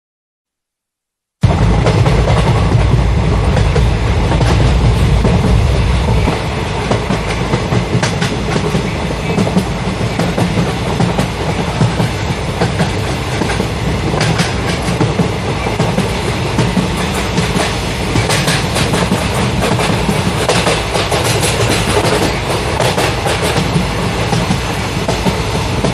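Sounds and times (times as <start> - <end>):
train rumbling on rails: 1.4 - 25.9.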